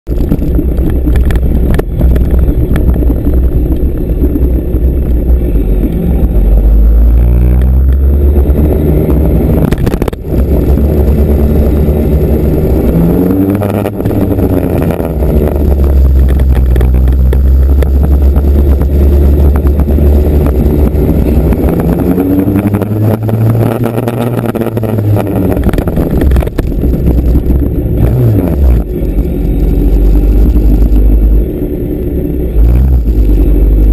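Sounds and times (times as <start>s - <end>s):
motorcycle engine revving: 0.1s - 31.6s, 32.2s - 33.9s.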